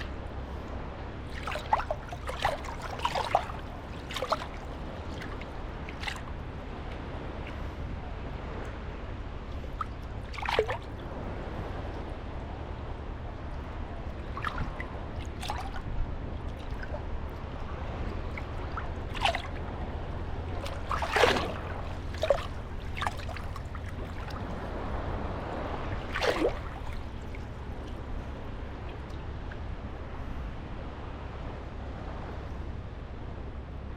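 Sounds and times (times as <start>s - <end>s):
waves lapping and splashing: 0.0s - 33.9s.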